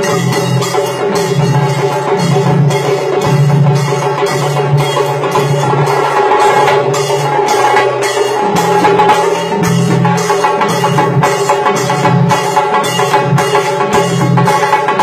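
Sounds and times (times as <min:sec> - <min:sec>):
fast drum ensemble: 0:00.0 - 0:15.0
hand cymbal strokes: 0:00.0 - 0:15.0.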